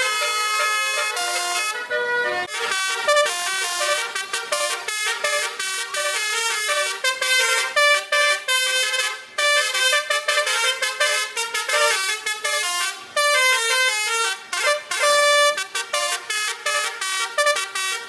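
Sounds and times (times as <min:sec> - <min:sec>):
musical air horns playing melody: 0:00.0 - 0:18.0.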